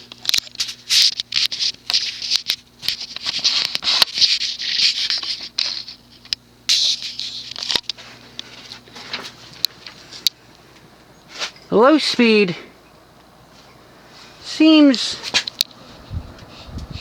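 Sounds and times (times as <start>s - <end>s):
ceiling fan motor humming: 0.0s - 17.0s
fan clicking: 0.0s - 17.0s.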